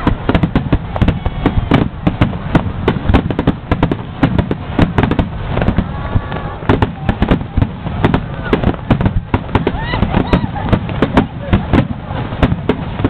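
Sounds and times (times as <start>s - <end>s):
fireworks barrage of bangs: 0.0s - 13.0s.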